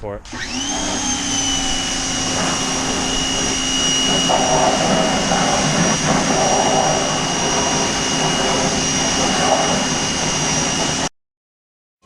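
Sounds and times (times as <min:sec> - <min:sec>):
pressure washer whine and hum: 0:00.0 - 0:11.1
water jet spraying: 0:00.3 - 0:11.1.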